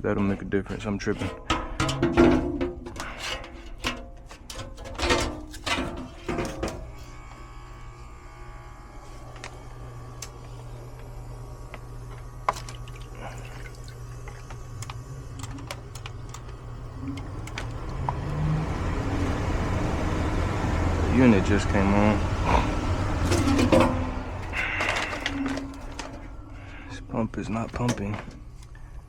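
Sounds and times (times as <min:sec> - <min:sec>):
low hum: 0:00.0 - 0:29.0
furnace blower rushing: 0:01.2 - 0:27.2.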